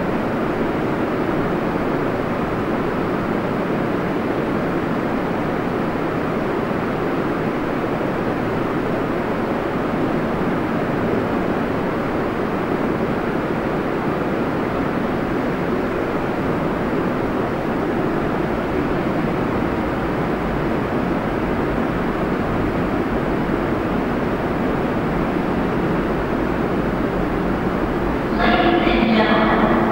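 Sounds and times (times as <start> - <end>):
subway station background noise: 0.0 - 29.9.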